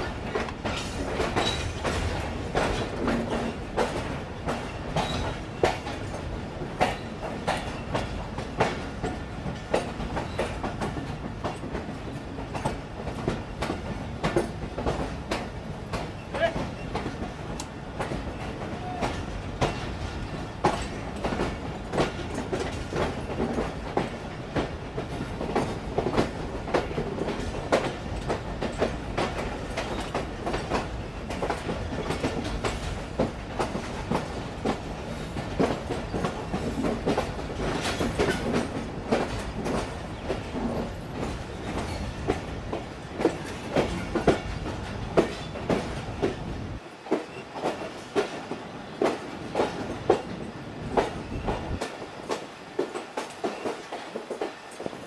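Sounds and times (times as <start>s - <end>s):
wheel clacks over rail joints: 0.0s - 46.4s
train coach rolling rumble: 0.0s - 55.0s.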